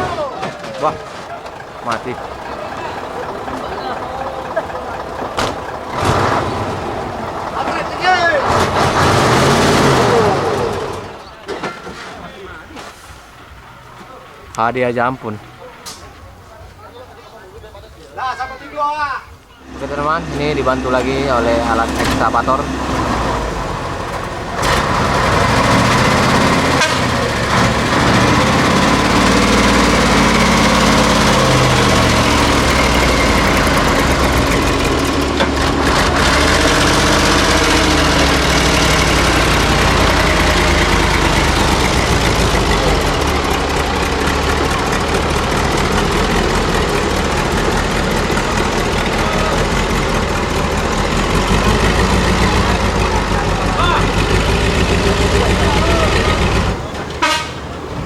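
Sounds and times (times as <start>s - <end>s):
heavy diesel engines revving: 0.0s - 18.2s, 19.2s - 58.0s.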